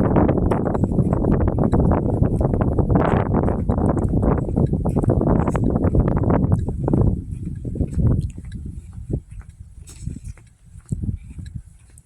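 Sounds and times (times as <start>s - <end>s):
footsteps crunching through snow: 0.1s - 12.0s.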